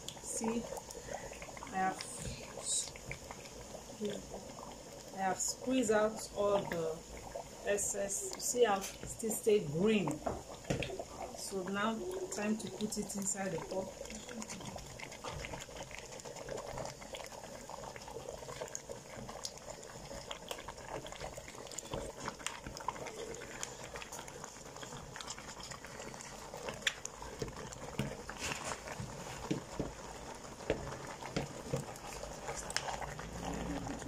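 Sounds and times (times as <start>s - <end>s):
thick soup bubbling in a pot: 0.0s - 34.0s.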